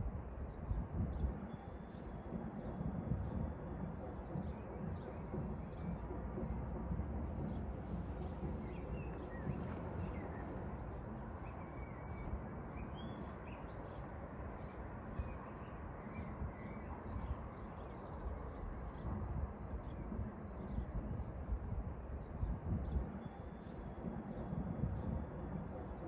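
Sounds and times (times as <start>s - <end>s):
low background rumble: 0.0s - 26.0s
birds chirping: 0.4s - 21.4s.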